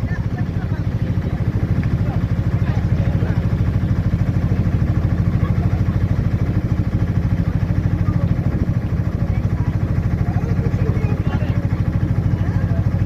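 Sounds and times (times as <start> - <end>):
engine running with low pulse: 0.0 - 13.0.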